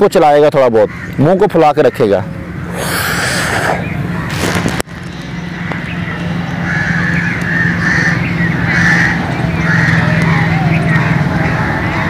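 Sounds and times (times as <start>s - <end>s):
birds calling: 0.8s - 4.8s, 5.6s - 12.0s.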